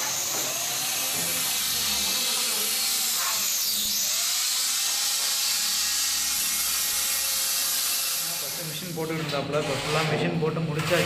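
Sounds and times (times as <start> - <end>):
wall grinder whining: 0.0 - 11.0.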